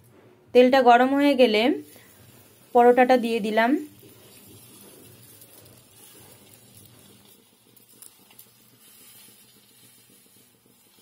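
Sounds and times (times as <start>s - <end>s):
flatbread sizzling in oil: 1.2s - 11.0s.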